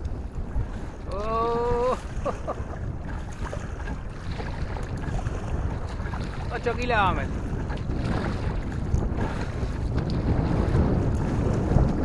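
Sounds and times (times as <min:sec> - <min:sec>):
water slapping around kayak: 0:00.0 - 0:12.0
wind buffeting microphone: 0:00.0 - 0:12.0.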